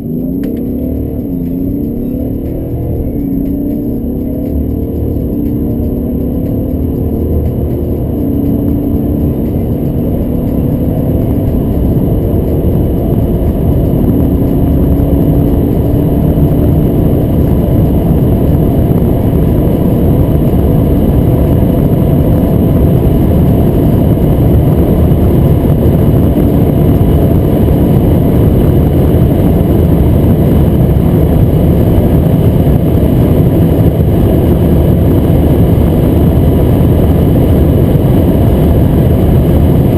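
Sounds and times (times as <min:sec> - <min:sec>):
low engine drone: 0:00.0 - 0:39.9
road and wind roar: 0:00.0 - 0:39.9.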